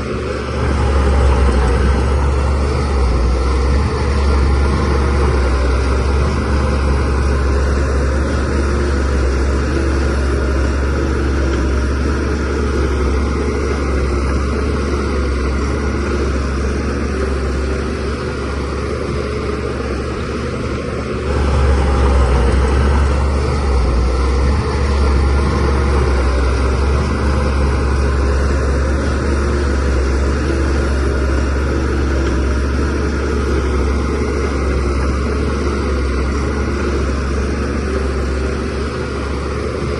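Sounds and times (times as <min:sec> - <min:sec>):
bulldozer diesel engine rumbling: 0:00.0 - 0:39.9.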